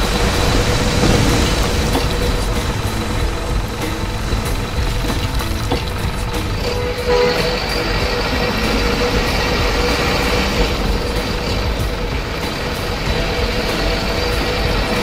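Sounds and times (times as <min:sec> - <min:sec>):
model truck motor running: 0:00.0 - 0:15.0.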